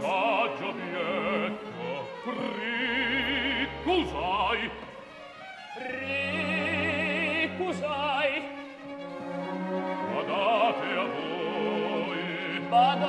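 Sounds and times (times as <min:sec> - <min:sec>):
opera singers with vibrato: 0:00.0 - 0:05.0, 0:05.7 - 0:08.6, 0:09.9 - 0:13.0
orchestra playing sustained notes: 0:00.0 - 0:13.0.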